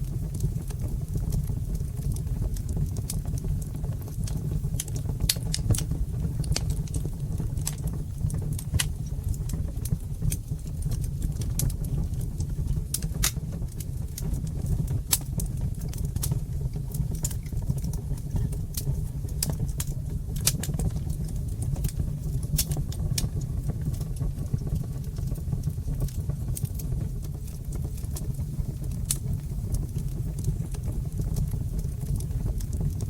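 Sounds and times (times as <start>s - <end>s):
low rumble of flames: 0.0s - 33.0s
wood fire crackling: 0.0s - 33.0s.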